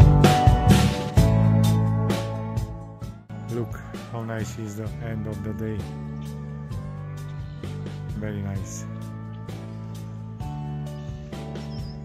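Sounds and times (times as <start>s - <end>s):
background music sustained chords: 0.0s - 12.0s.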